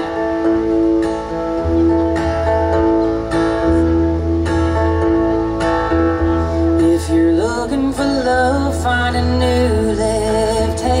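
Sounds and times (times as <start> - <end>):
electric bass notes: 0.0 - 11.0
strummed acoustic guitar: 0.0 - 11.0.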